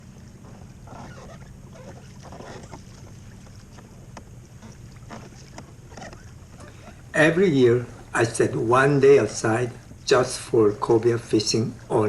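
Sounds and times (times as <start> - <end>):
steady low rumble: 0.0 - 12.0
waves lapping against kayak hull: 0.0 - 12.0.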